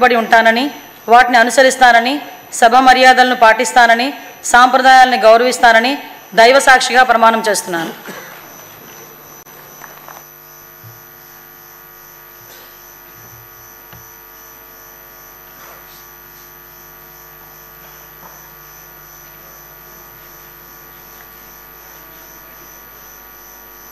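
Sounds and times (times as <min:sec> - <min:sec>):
steady electrical hum: 0:00.0 - 0:23.9.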